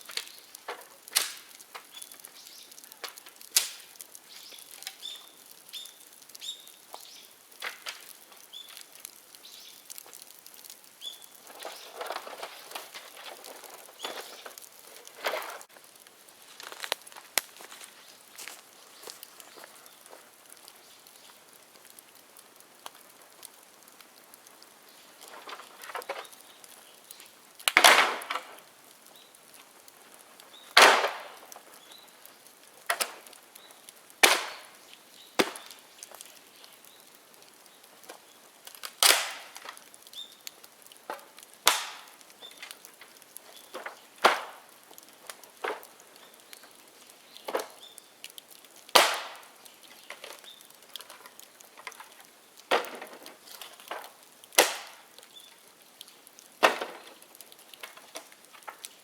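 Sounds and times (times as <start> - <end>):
bamboo cracking and popping in fire: 0.0 - 59.0.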